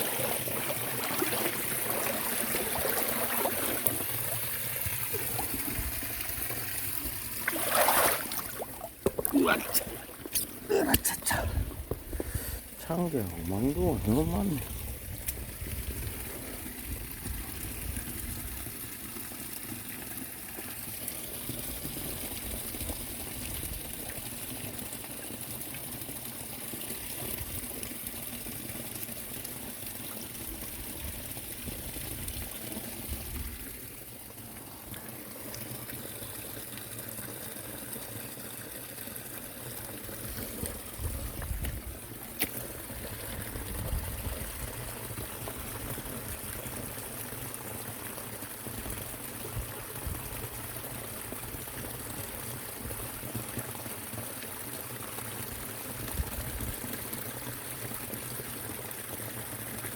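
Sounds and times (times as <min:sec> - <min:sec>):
water running over a weir: 0:00.0 - 0:59.9.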